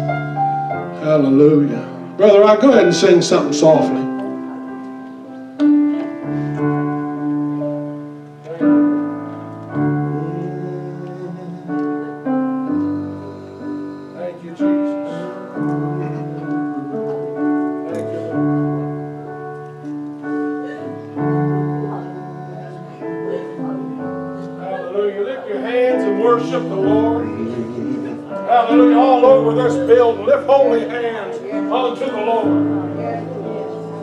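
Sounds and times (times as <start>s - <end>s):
piano playing slow chords: 0.0s - 34.0s.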